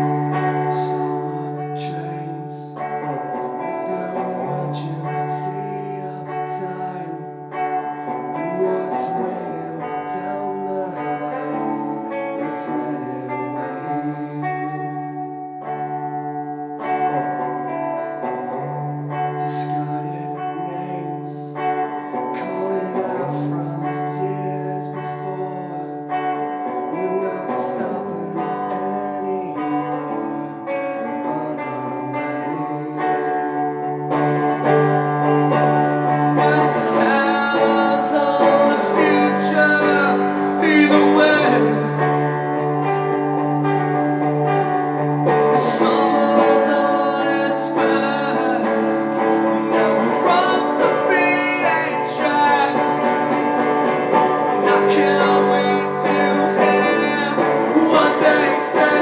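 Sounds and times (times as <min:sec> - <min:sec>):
man singing: 0:00.0 - 0:15.7, 0:16.8 - 0:59.0
electric guitar chords: 0:00.0 - 0:59.0.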